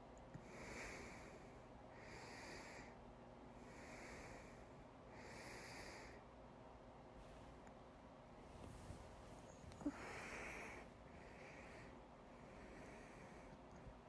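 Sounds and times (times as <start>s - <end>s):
person breathing quietly: 0.3s - 6.3s, 8.5s - 14.0s.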